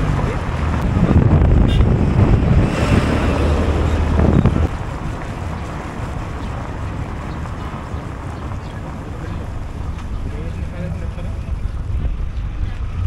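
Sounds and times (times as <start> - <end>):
diesel engine drone passing: 0.0 - 13.0
road noise: 0.0 - 13.0
wind buffeting microphone: 0.0 - 13.0.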